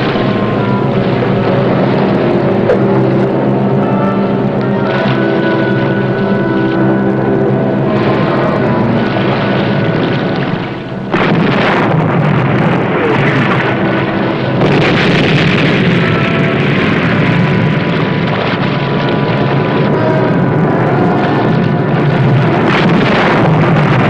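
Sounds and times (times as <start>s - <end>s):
explosions: 0.0s - 4.2s, 7.8s - 24.0s
engine noise: 0.0s - 24.0s.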